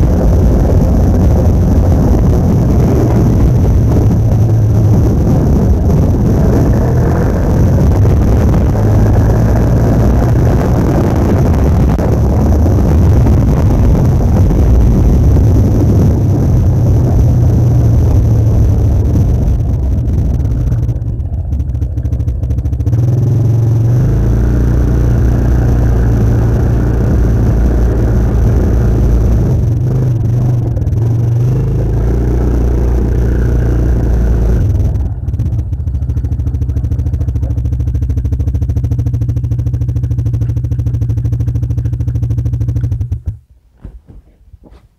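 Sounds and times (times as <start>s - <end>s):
vehicle engine drone: 0.0s - 44.8s.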